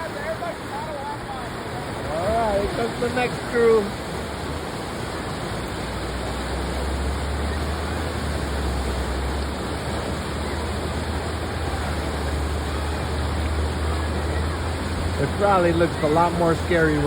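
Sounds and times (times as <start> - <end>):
deep water rumble: 0.0 - 17.0
river rapids rushing: 0.0 - 17.0.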